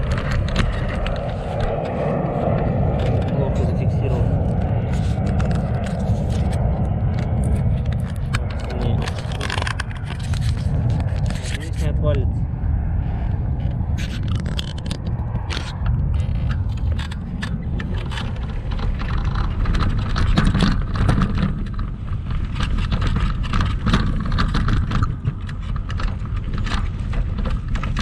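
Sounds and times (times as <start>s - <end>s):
electric scooter rumbling: 0.0s - 28.0s.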